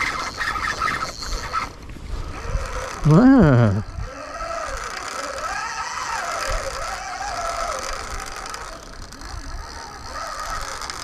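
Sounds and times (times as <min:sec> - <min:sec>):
fishing reel ticking: 0:00.0 - 0:03.0, 0:03.9 - 0:11.0.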